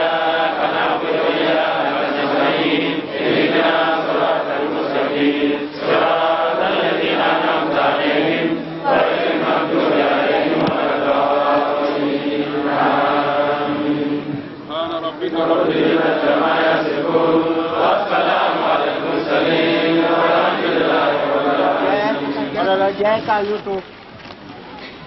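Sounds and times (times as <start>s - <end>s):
crowd chanting in unison: 0.0s - 14.6s, 15.2s - 22.8s.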